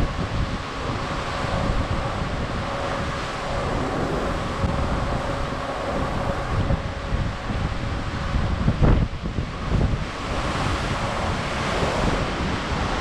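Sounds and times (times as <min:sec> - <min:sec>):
faint steady hum: 0:00.0 - 0:13.0
sea rushing along ship hull: 0:00.0 - 0:13.0
wind buffeting microphone: 0:00.0 - 0:13.0.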